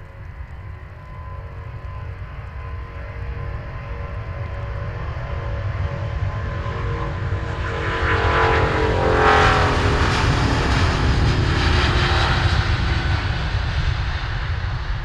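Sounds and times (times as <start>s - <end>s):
jet engine whine: 0.0s - 15.0s.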